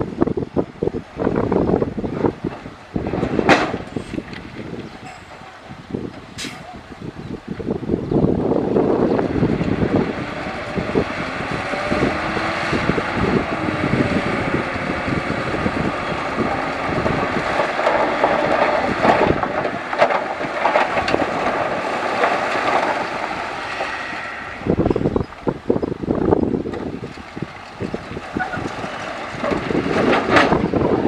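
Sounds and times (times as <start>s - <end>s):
heavy earthmoving machinery running: 0.0s - 31.0s.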